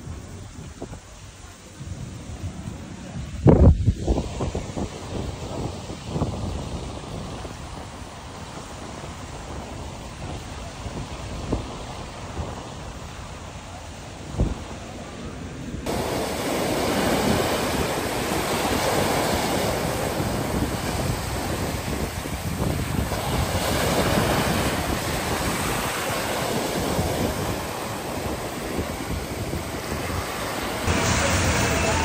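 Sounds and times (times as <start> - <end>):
ocean surf breaking on sand: 0.0 - 32.0.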